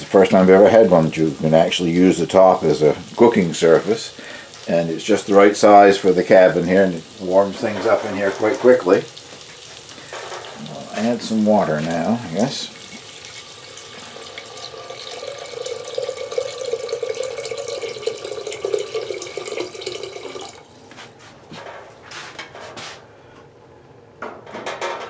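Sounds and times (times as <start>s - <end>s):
water pouring into a pot: 0.0s - 20.9s.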